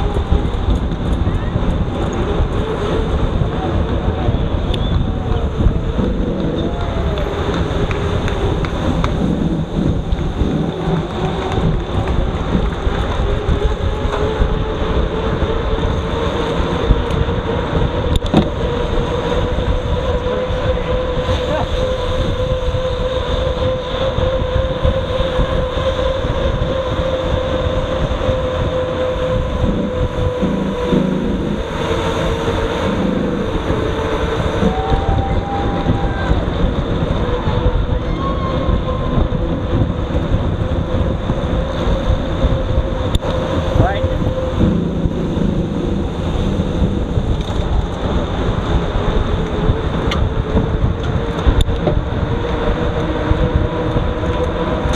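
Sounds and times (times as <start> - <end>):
steady rolling hum: 0.0 - 54.9
wind rushing over microphone: 0.0 - 54.9.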